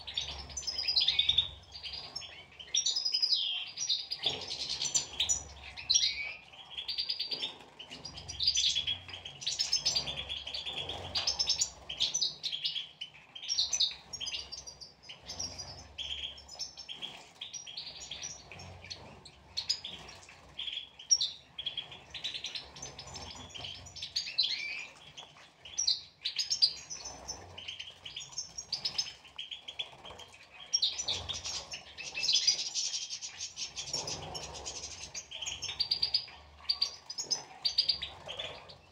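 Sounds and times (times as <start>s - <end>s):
finches chirping and twittering: 0.0s - 38.9s.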